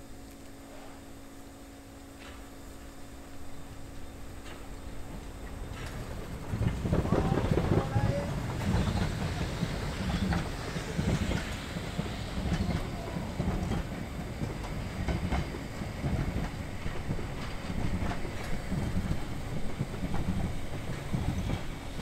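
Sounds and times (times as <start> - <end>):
train wheels rumbling: 2.2 - 22.0
rail joint clicks: 4.0 - 22.0.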